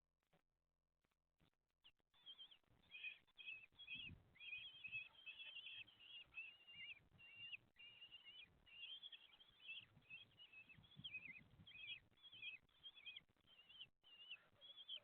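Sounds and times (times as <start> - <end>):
high chirping bird calls: 2.2 - 15.0.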